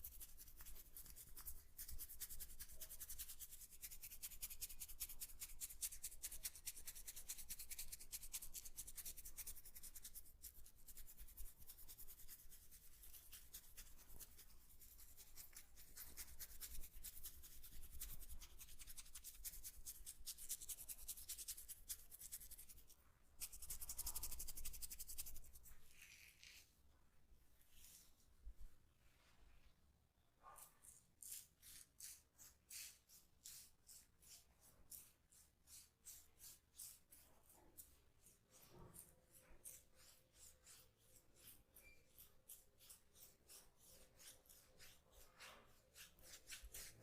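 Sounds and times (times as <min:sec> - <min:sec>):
fingers scratching through hair: 0:00.0 - 0:26.7, 0:30.6 - 0:47.0.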